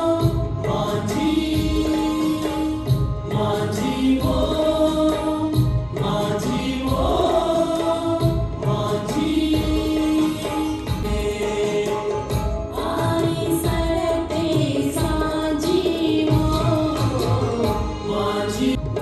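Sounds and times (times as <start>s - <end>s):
group singing chant-like lines: 0.0s - 18.8s
instrumental backing: 0.0s - 19.0s.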